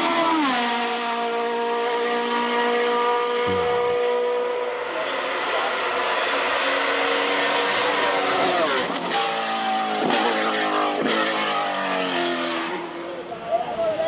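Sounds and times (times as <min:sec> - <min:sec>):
race car engine revving: 0:00.0 - 0:13.2.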